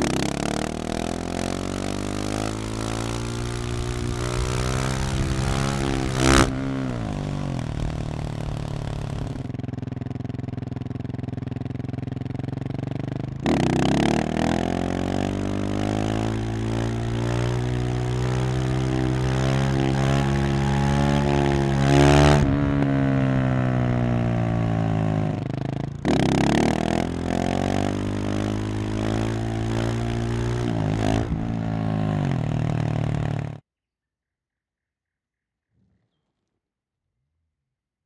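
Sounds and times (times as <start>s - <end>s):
motorcycle engine revving: 0.0s - 33.6s.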